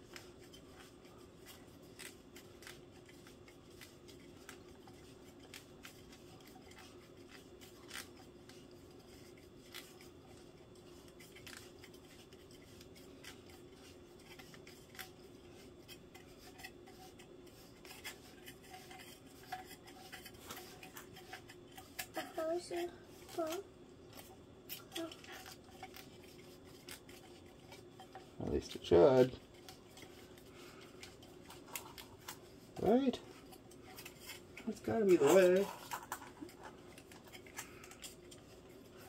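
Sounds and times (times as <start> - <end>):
plastic toy clicking and rubbing: 0.0 - 39.0
steady low hum: 0.0 - 39.0.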